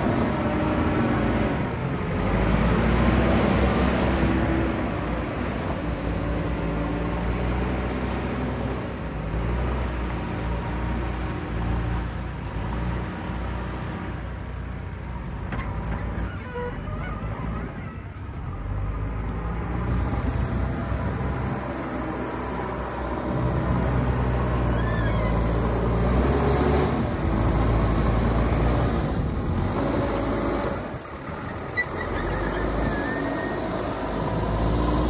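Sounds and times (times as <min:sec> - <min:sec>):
backhoe loader diesel engine: 0:00.0 - 0:35.0
tractor engine running: 0:00.0 - 0:35.0.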